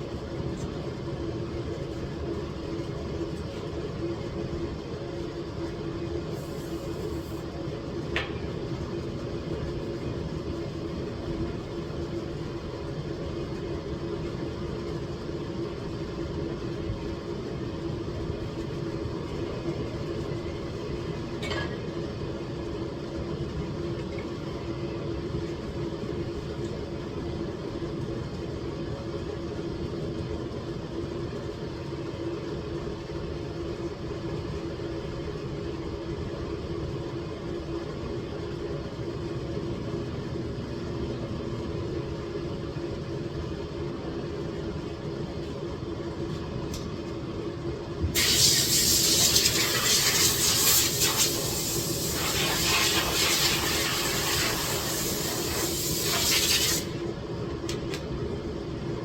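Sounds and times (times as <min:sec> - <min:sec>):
low mechanical hum: 0:00.0 - 0:59.0.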